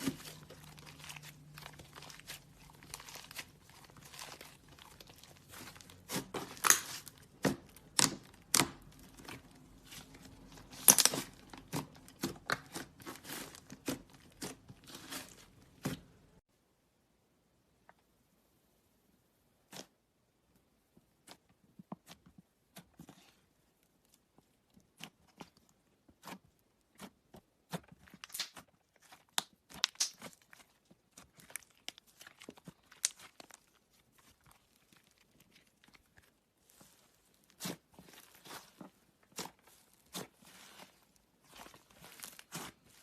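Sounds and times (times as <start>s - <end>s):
clay slime squished by hand: 0.0s - 16.4s, 19.5s - 43.0s.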